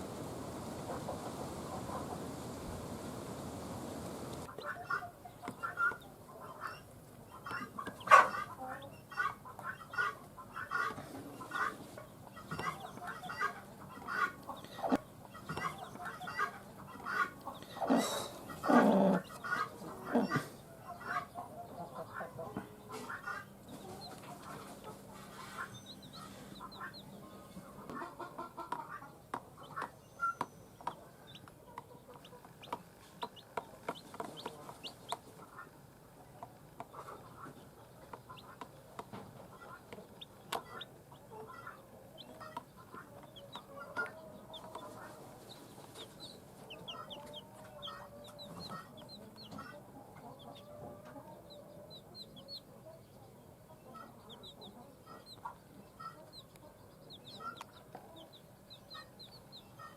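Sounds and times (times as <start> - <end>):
chicks peeping: 0.0 - 59.9
hen clucking low: 0.2 - 11.8, 12.4 - 35.8, 39.5 - 53.0.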